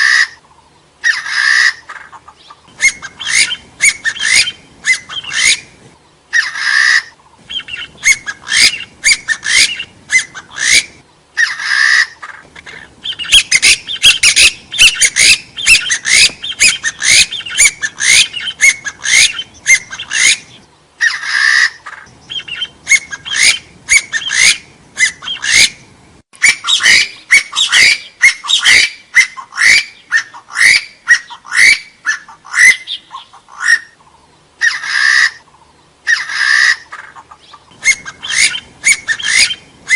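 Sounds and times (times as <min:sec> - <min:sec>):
partridge calling: 0:00.0 - 0:39.9.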